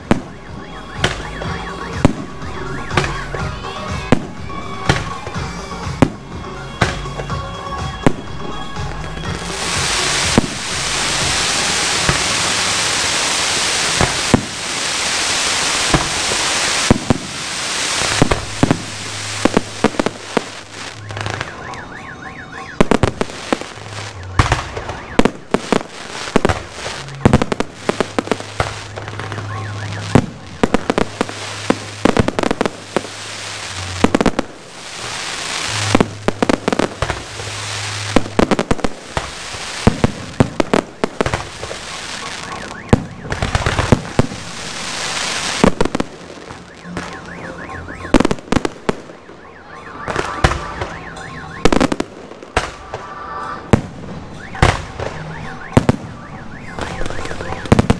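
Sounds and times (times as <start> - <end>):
ground fireworks hissing: 0.0 - 21.9, 22.6 - 49.3, 50.1 - 57.9
fireworks bangs: 0.0 - 57.9.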